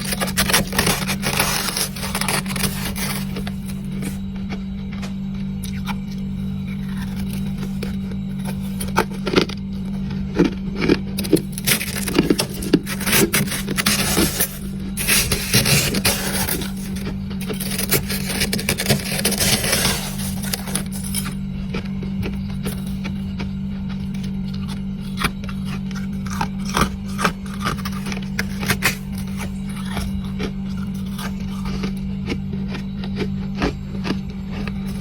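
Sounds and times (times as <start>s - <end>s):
chewing crunchy frost: 0.0s - 35.0s
steady low hum: 0.0s - 35.0s.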